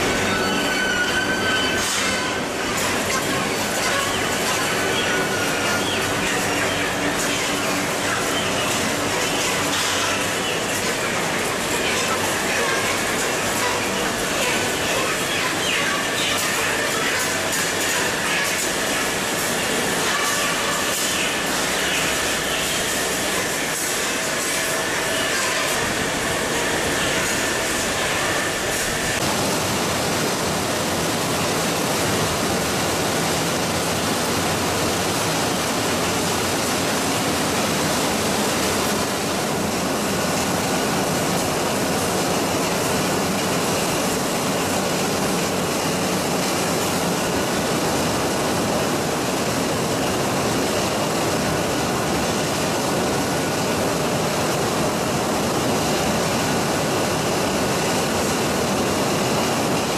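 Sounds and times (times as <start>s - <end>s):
machinery roar: 0.0s - 59.9s.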